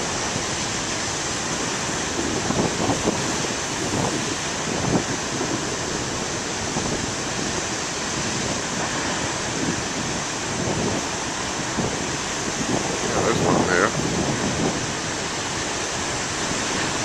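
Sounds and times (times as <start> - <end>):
waves breaking on shore: 0.0 - 17.0
wind buffeting microphone: 0.0 - 17.0.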